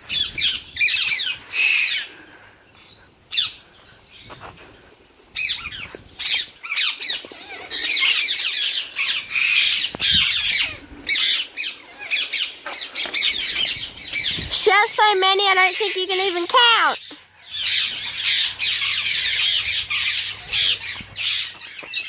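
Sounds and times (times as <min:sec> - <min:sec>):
parrots squawking and screeching: 0:00.0 - 0:02.2, 0:05.4 - 0:22.0.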